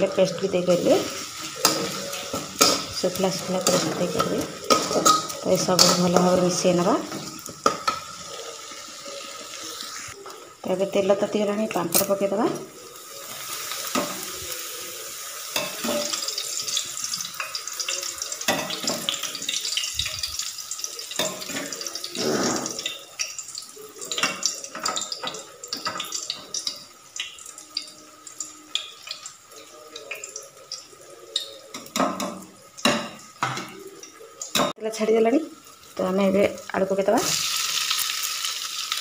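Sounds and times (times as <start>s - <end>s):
crackles and pops of frying: 0.0s - 39.0s
frying in hot oil sizzling: 0.0s - 39.0s.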